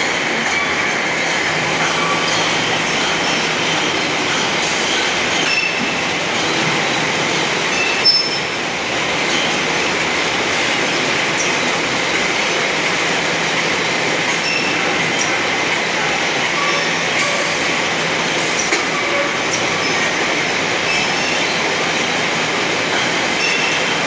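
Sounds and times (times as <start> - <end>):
roller conveyors and crates: 0.0 - 24.0.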